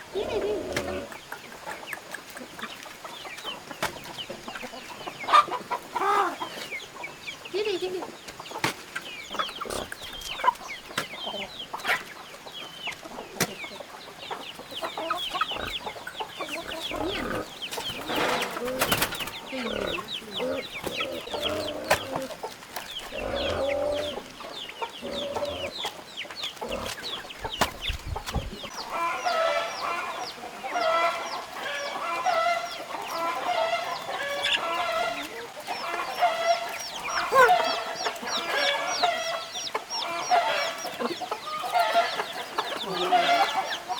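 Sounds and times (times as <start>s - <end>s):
chickens clucking: 0.0s - 43.9s
rapid repeated chicken calls: 0.0s - 43.9s.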